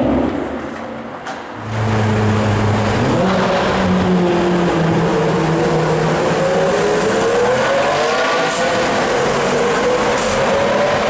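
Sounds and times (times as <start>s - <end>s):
sports car engine revving in tunnel: 1.6s - 11.0s.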